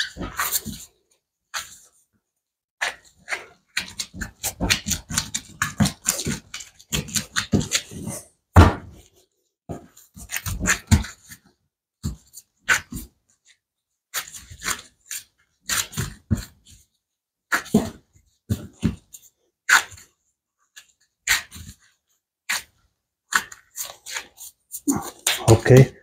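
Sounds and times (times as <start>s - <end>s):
dough slapping and squelching: 0.0s - 0.9s, 2.8s - 13.3s, 14.1s - 16.9s, 17.5s - 26.0s.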